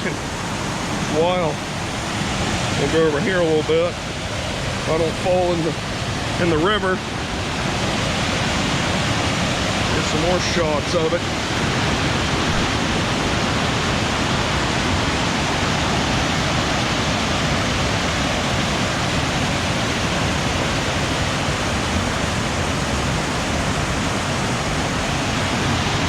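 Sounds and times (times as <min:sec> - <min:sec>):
whitewater rushing over waterfall: 0:00.0 - 0:26.0.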